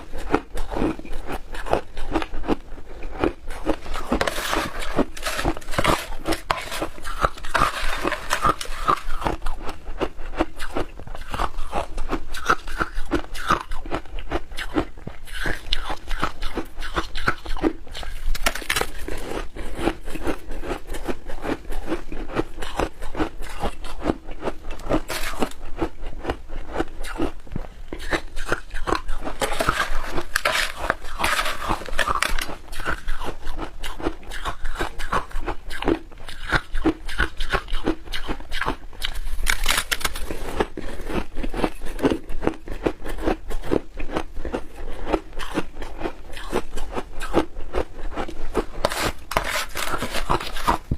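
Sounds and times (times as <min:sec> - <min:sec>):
shaved ice being chewed: 0:00.0 - 0:50.9.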